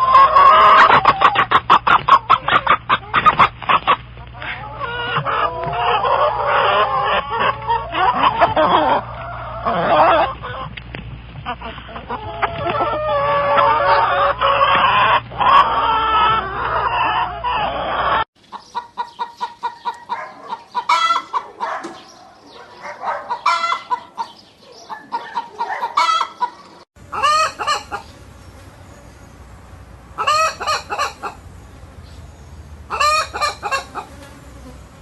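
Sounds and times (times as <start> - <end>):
loud chicken call: 0.0 - 10.7, 11.6 - 18.2, 18.8 - 34.4
chickens clucking: 0.0 - 35.0.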